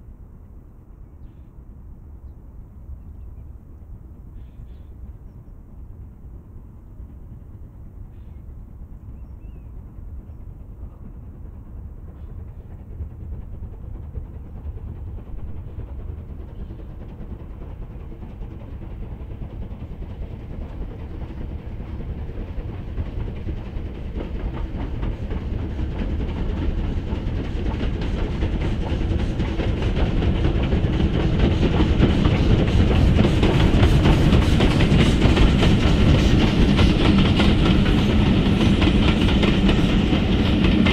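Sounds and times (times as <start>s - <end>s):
steam locomotive exhaust beats: 4.1s - 40.9s.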